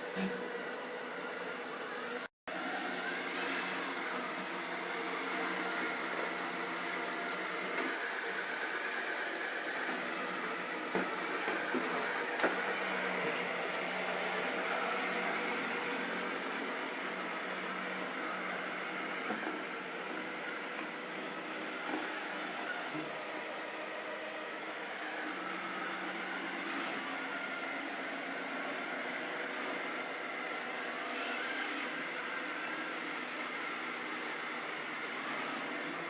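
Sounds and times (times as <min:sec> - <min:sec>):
robot vacuum cleaner whirring: 0:00.0 - 0:36.0.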